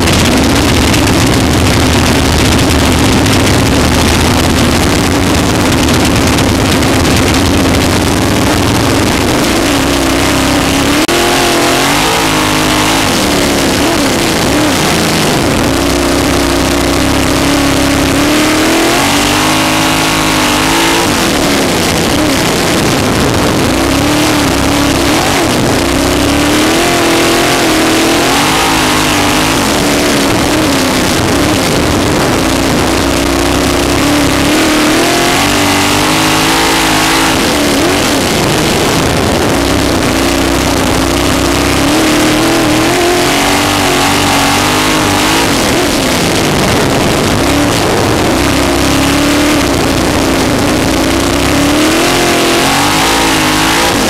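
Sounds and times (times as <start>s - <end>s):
constant rushing noise: 0.0s - 54.0s
race car engine rising and falling: 0.0s - 54.0s.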